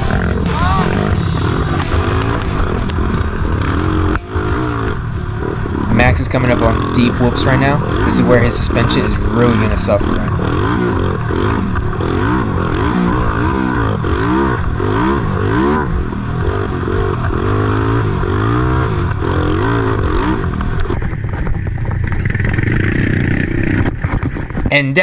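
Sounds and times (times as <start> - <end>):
quad engine revving: 0.0 - 24.7.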